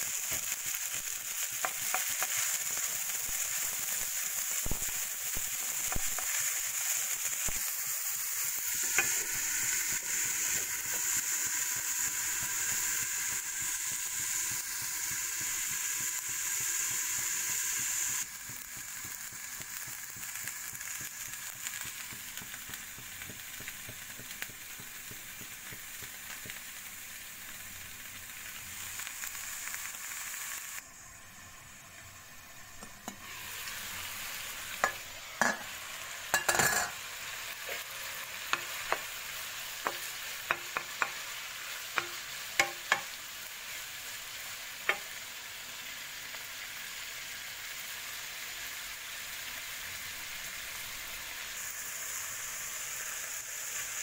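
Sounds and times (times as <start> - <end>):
green beans sizzling in oil: 0.0 - 54.0.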